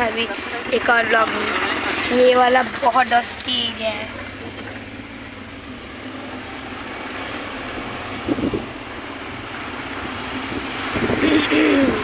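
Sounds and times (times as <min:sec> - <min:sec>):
road and engine noise inside vehicle: 0:00.0 - 0:12.0.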